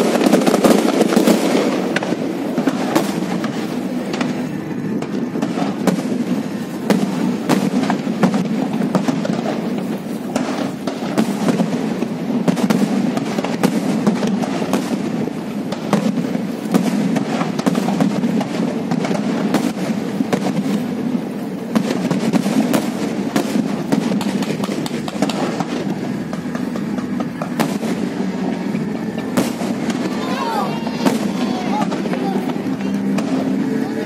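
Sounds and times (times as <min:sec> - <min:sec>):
fireworks bangs and crackles: 0:00.0 - 0:34.0
low background noise: 0:00.0 - 0:34.0.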